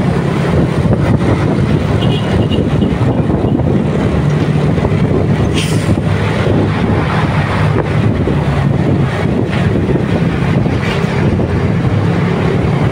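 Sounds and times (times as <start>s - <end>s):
motorcycle engine hum: 0.0s - 12.9s
wind rushing over microphone: 0.0s - 12.9s.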